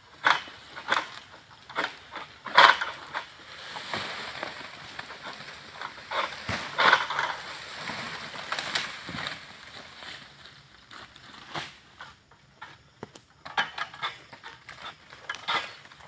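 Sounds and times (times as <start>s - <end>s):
sickle cutting palm fronds: 0.0s - 16.0s.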